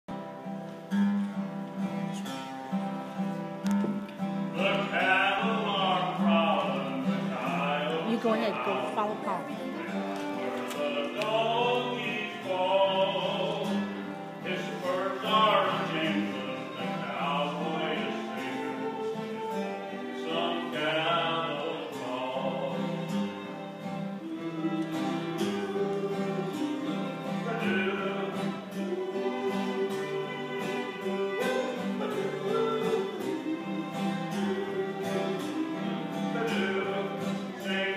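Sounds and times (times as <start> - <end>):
acoustic guitar chords: 0.1 - 37.9
fiddle sliding between notes: 4.3 - 37.9.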